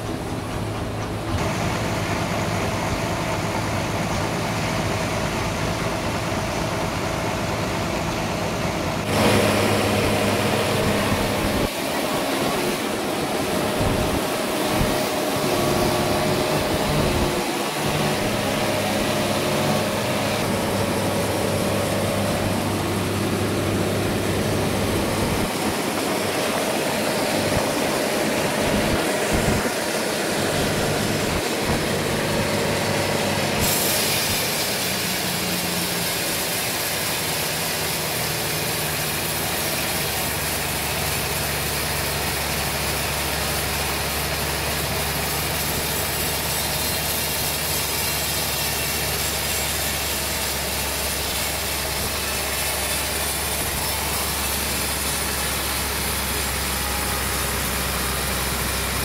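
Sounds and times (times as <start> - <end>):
sawmill sawing log: 0.0 - 59.0.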